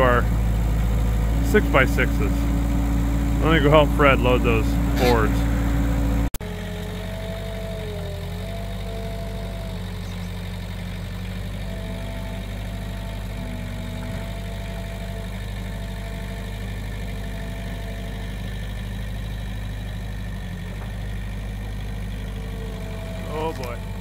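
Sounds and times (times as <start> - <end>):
engine idling with faint whine: 0.0 - 24.0.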